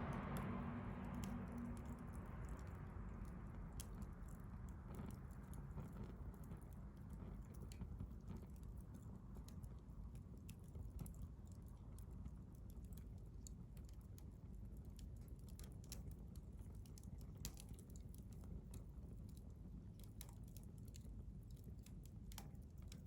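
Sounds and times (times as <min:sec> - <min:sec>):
low steady rumble: 0:00.0 - 0:23.0
campfire crackling: 0:00.1 - 0:23.0.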